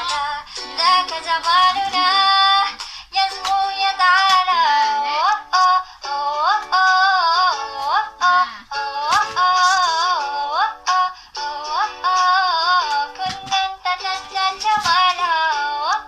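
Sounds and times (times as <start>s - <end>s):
woman singing: 0.0s - 16.0s.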